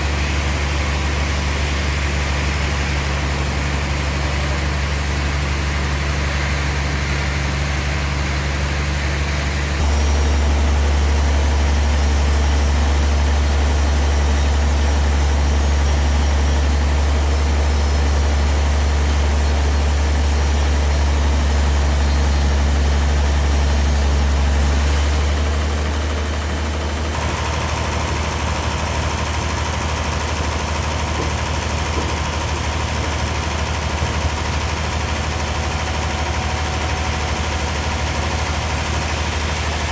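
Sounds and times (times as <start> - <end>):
heavy engine humming: 0.0 - 39.9
thin steady whine: 0.0 - 39.9.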